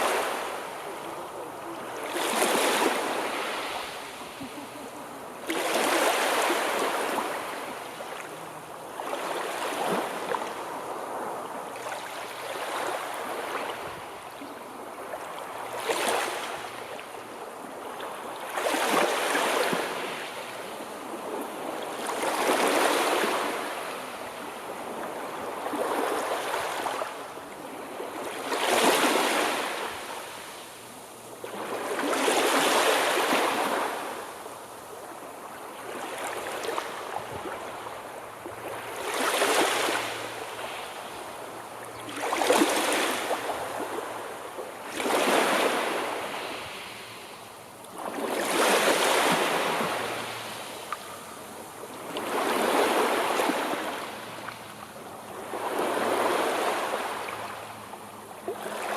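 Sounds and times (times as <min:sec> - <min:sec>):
sea waves washing in: 0:00.0 - 0:58.9.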